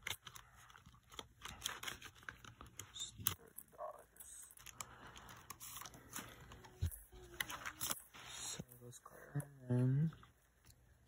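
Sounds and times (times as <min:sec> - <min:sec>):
plastic sleeves and paper rustling: 0:00.0 - 0:09.0.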